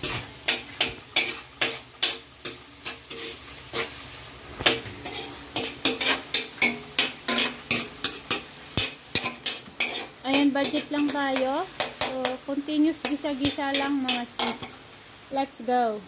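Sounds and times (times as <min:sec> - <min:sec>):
metal spatula scraping a wok: 0:00.0 - 0:14.8
light sizzle: 0:00.0 - 0:16.0.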